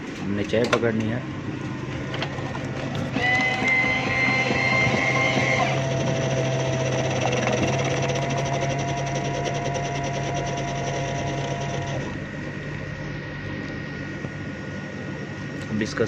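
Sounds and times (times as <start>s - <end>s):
vending machine pump humming: 0.0s - 16.0s
high motor whine: 1.3s - 16.0s.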